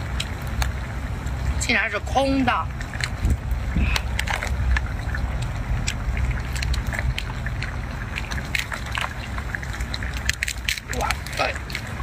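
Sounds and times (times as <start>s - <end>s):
crab shell cracking: 0.0s - 0.8s, 2.7s - 12.0s
steady low rumble: 0.0s - 12.0s.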